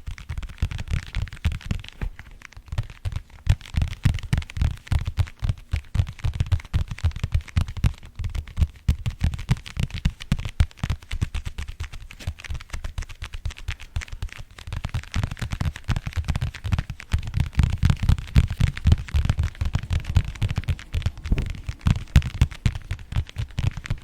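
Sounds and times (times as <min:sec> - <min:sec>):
rapid tapping on an object: 0:00.0 - 0:24.0.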